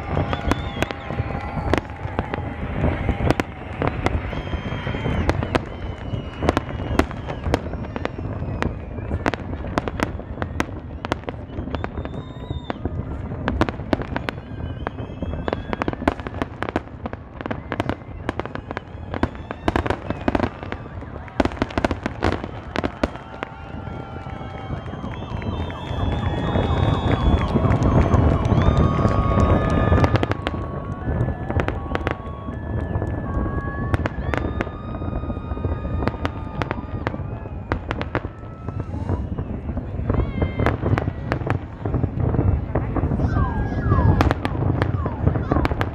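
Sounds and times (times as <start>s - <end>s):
fireworks bangs: 0.0s - 45.9s
fireworks whistling: 0.0s - 45.9s.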